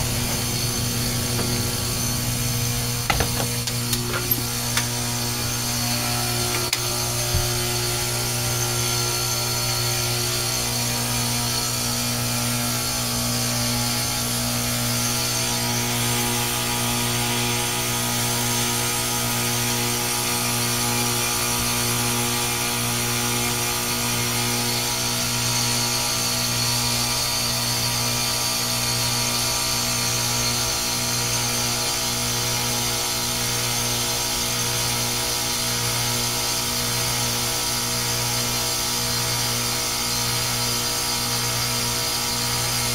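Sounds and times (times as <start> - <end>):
heat pump humming and hissing: 0.0 - 42.9.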